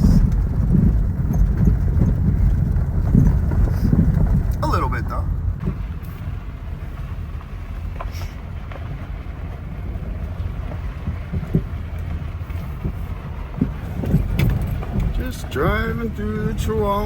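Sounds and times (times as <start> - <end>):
engine and tyres rumbling: 0.0 - 17.0
road knocks and rattles: 0.0 - 17.0.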